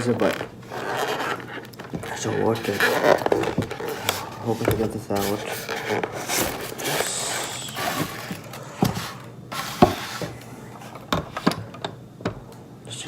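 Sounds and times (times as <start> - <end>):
scraping and rubbing packaging: 0.0 - 11.0.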